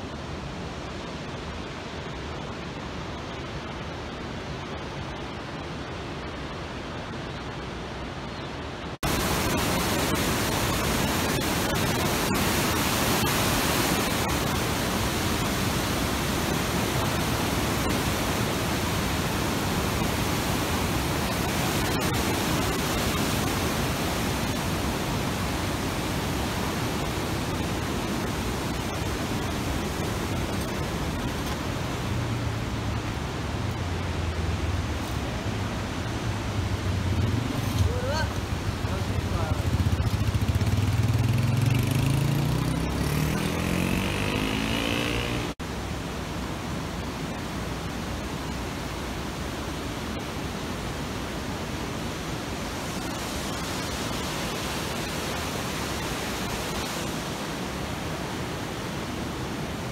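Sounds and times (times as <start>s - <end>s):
loud broadband rushing noise: 0.0s - 59.9s.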